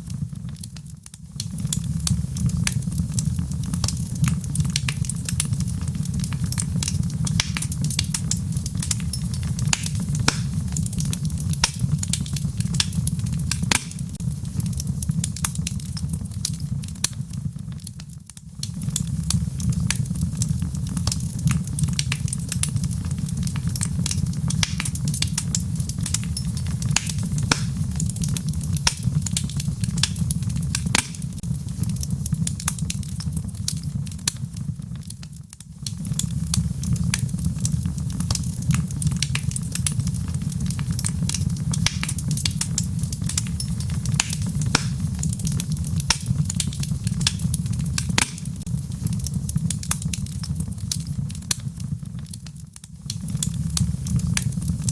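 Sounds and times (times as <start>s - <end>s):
log fire crackling and popping: 0.0s - 54.9s.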